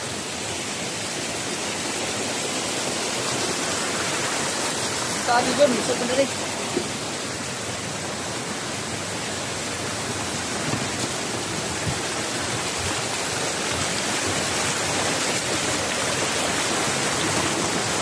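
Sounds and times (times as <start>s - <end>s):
stream splashing over boulders: 0.0s - 18.0s.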